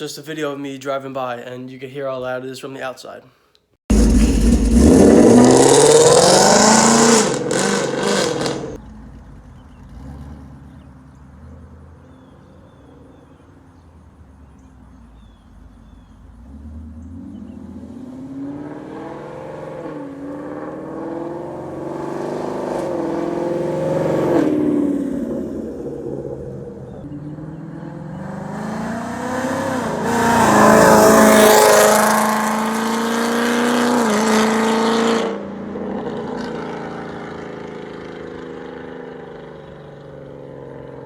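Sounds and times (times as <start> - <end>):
car engine revving: 3.9 - 12.3, 14.5 - 41.0.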